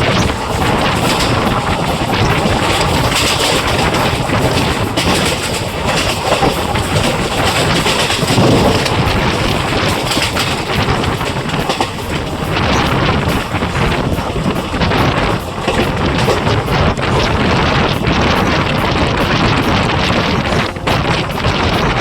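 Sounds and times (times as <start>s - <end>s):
knocks and rattles: 0.0s - 22.0s
rushing air: 0.0s - 22.0s
train wheels rumbling on rails: 0.0s - 22.0s.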